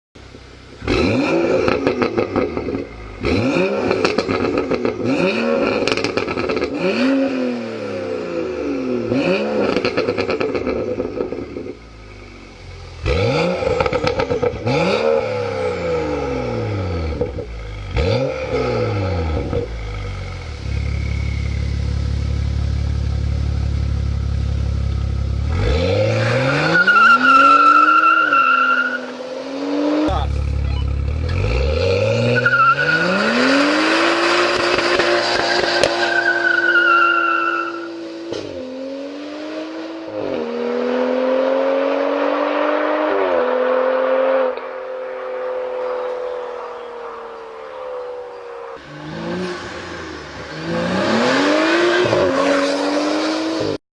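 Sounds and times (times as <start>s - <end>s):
car engine revving: 0.2s - 53.8s.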